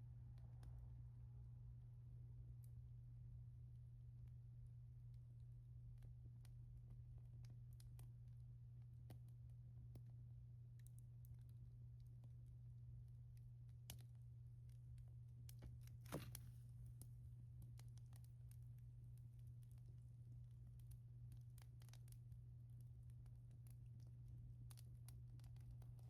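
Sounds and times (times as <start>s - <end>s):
wood fire crackling: 4.8s - 26.0s.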